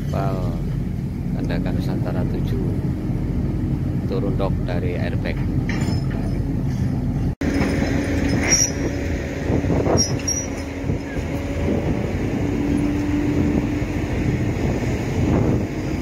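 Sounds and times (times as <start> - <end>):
engine hum: 0.0 - 16.0
low outdoor rumble: 0.0 - 16.0.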